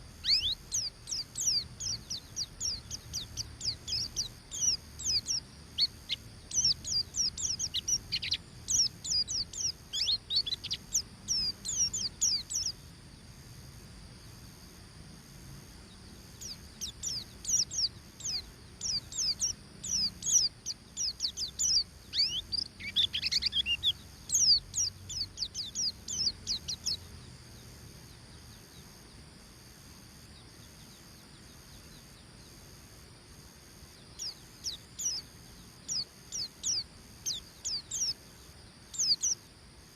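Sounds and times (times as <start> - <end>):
bird twittering song: 0.0 - 12.8, 15.9 - 29.1, 33.9 - 39.9.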